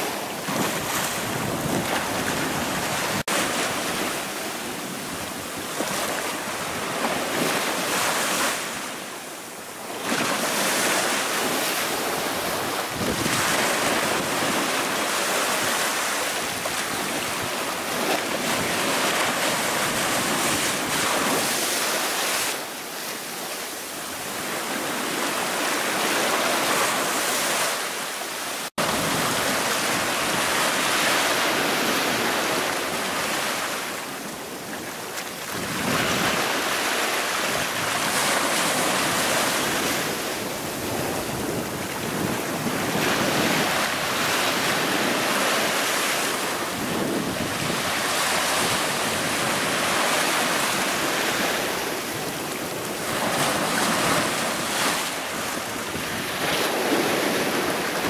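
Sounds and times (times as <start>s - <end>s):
waves washing up beach: 0.0s - 58.0s.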